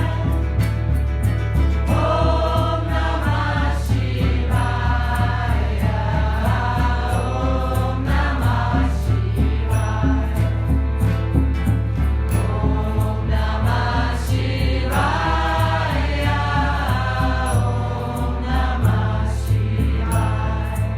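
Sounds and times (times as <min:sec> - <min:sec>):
voices singing a mantra chant: 0:00.0 - 0:01.0, 0:01.8 - 0:11.1, 0:12.3 - 0:20.9
steady low beat: 0:00.0 - 0:20.9.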